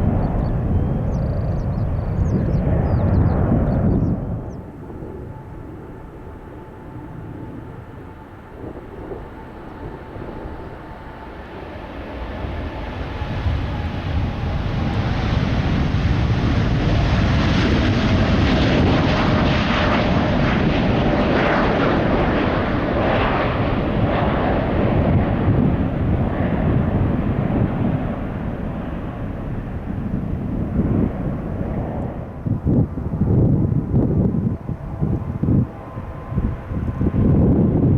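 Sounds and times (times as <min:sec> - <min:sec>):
jet engine rumble: 0:00.0 - 0:37.9.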